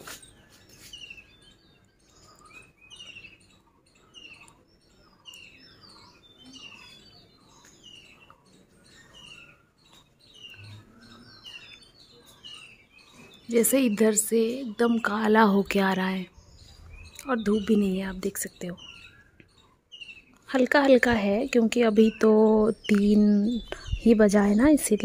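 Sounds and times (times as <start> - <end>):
birds chirping: 0.0 - 25.0
soft low bird calls: 0.1 - 25.0.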